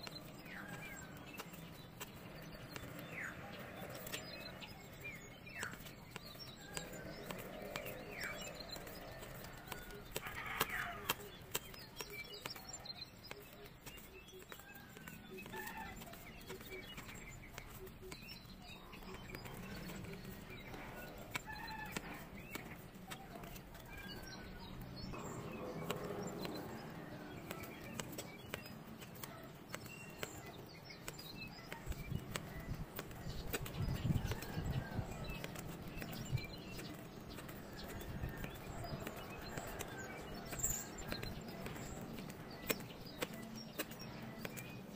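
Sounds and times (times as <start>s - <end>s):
cards being flipped and slid: 0.1s - 44.9s.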